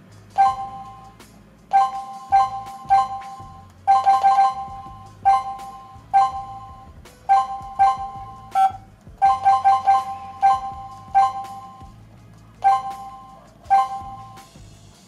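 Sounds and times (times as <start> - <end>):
keypad beeps: 0.4 - 1.1, 1.7 - 11.9, 12.6 - 14.4.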